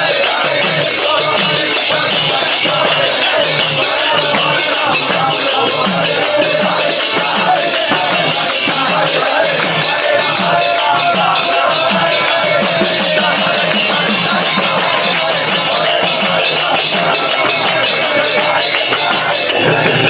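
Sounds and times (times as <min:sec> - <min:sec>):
chanted melody: 0:00.0 - 0:20.0
drum beat: 0:00.0 - 0:20.0
hand cymbals jingling: 0:00.0 - 0:20.0.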